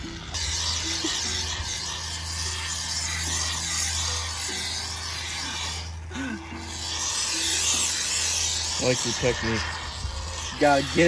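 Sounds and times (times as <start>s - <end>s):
aerosol foam hissing: 0.0s - 11.0s.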